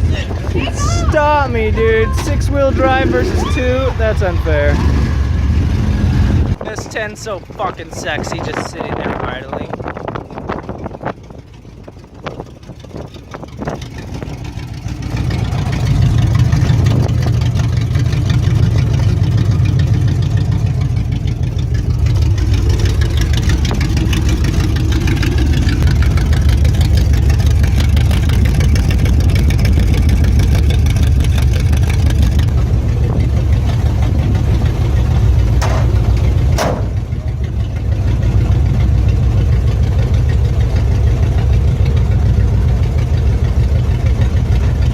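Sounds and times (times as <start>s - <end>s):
pickup engine running: 0.0s - 44.9s.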